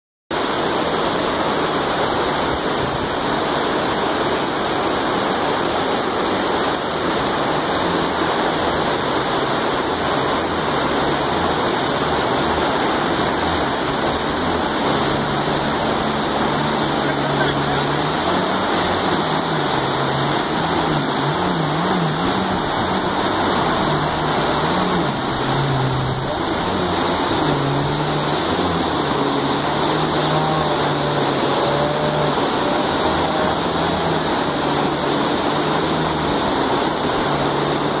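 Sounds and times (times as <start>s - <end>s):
whitewater rapids rushing: 0.3s - 38.0s
jet ski engine droning: 0.4s - 38.0s.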